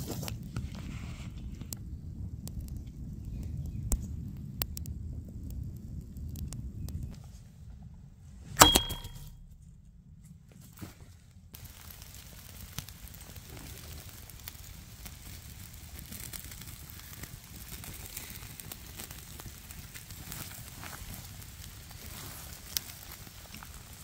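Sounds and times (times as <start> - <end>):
campfire crackling: 0.0 - 8.3, 9.4 - 24.0
fire popping: 0.0 - 24.0.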